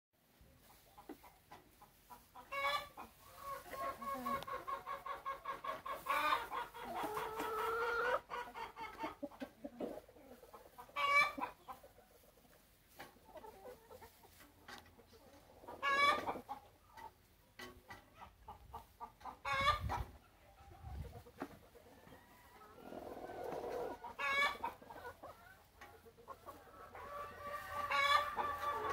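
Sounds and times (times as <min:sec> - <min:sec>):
hens clucking: 0:00.4 - 0:28.9.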